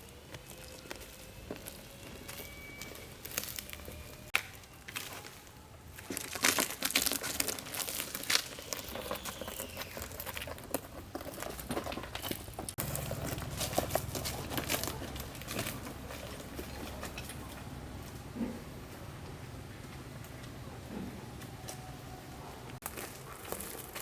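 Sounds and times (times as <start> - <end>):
crinkling and crackling: 0.0 - 24.0.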